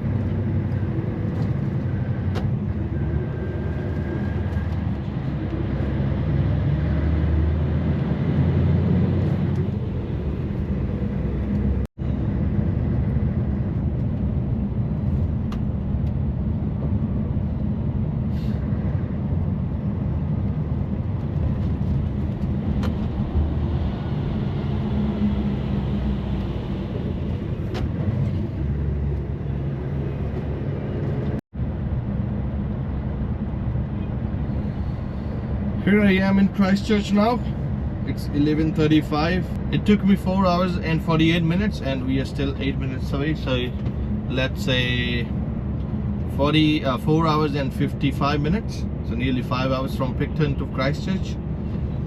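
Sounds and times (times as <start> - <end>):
road noise: 0.0 - 52.0
truck diesel engine: 0.0 - 52.0.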